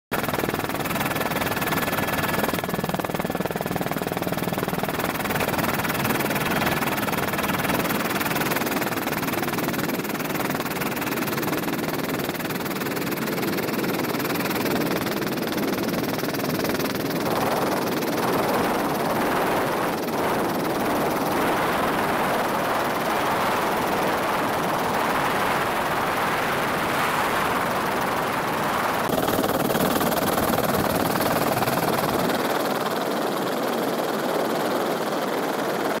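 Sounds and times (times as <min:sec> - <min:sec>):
helicopter engine and rotor noise: 0:00.1 - 0:36.0.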